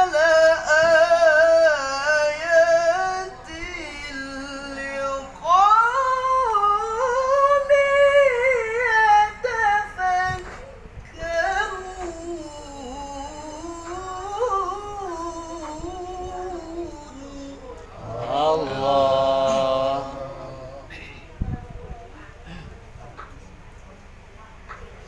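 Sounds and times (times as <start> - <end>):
man reciting melodically: 0.0 - 21.3.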